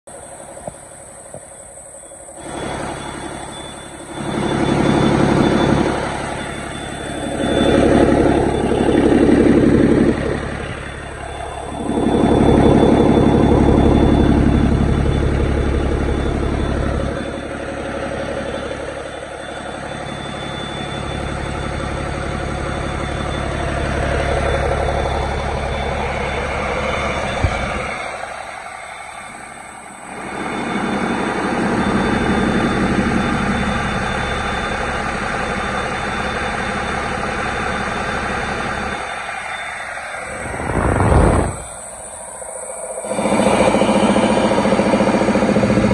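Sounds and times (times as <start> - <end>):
diesel engine idling: 0.1 - 45.9.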